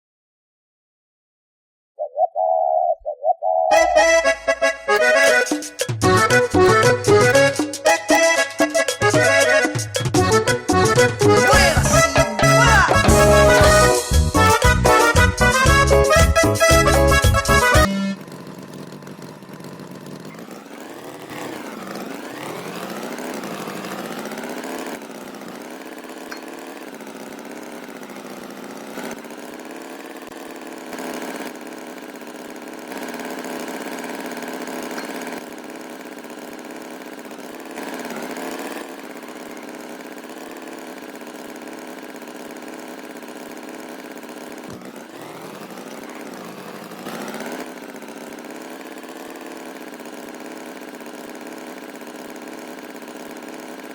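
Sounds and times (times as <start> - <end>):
engine running: 3.7 - 53.9.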